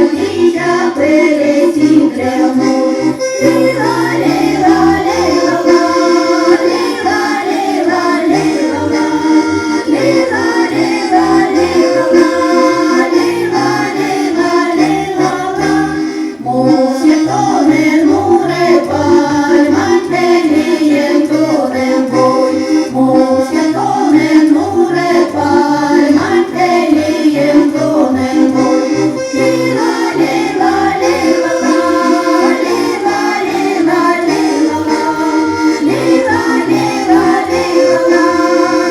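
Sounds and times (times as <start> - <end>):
accordion melody: 0.0 - 38.9
group singing: 0.0 - 38.9.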